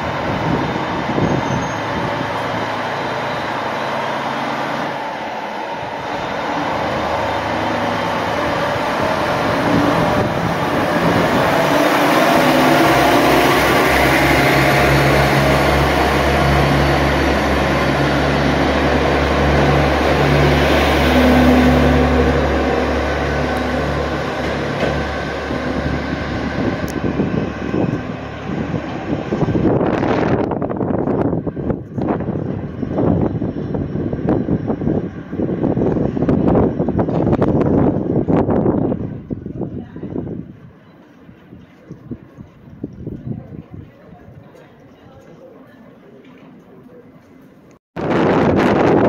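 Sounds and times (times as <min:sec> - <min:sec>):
diesel engine throbbing: 0:00.0 - 0:40.6
train rumbling on track: 0:00.0 - 0:49.0.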